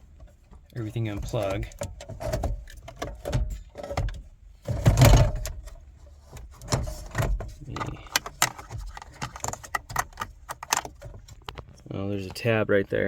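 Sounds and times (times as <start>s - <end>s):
plastic clicks and rattles: 0.5s - 11.8s.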